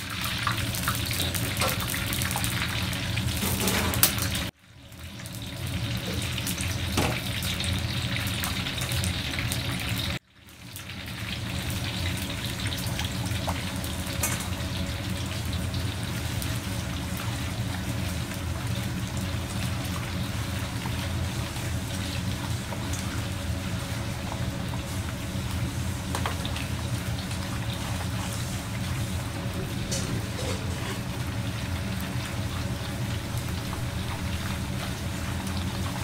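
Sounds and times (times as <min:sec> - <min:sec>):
meat sizzling in a wok: 0:00.0 - 0:36.0.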